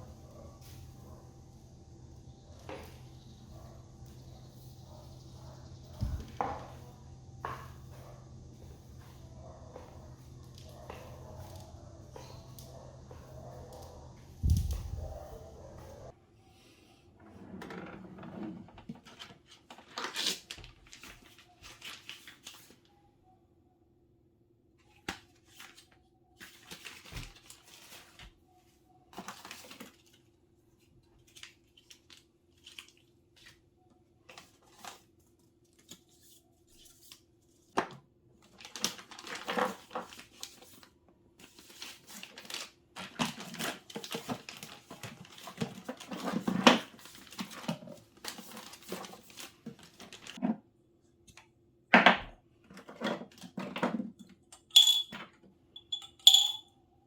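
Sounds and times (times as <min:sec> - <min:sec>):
rustling and crinkling: 0:00.0 - 0:16.1, 0:18.0 - 0:22.9, 0:24.8 - 0:50.6.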